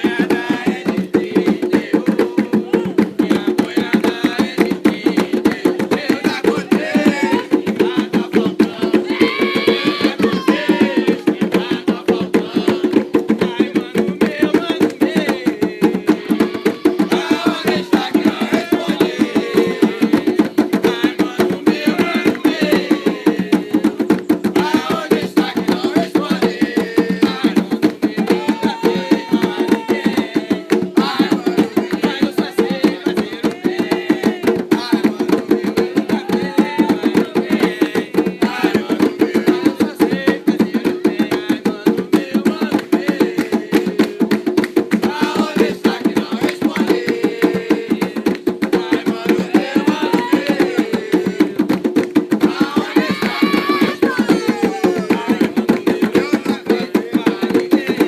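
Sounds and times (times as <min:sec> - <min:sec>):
hand drums fast beat: 0:00.0 - 0:58.0
voices singing: 0:00.0 - 0:58.0.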